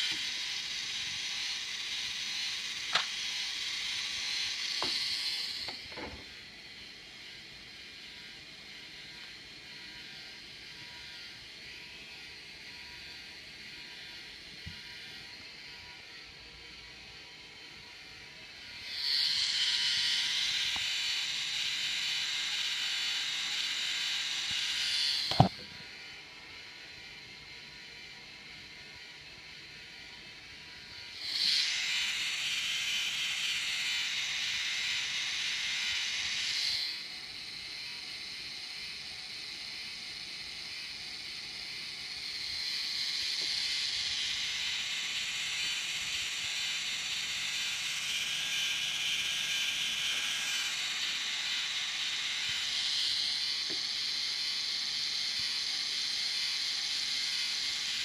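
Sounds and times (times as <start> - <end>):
small motor whirring: 0.0 - 58.0.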